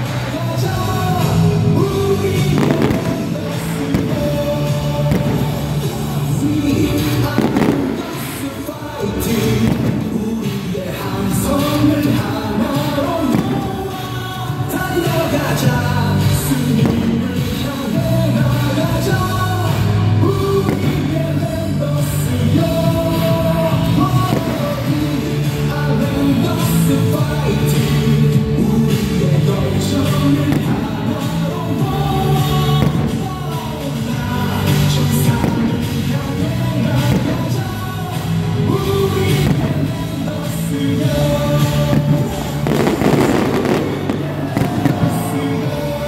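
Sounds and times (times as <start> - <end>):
cheer songs over rock beat: 0.0 - 46.0.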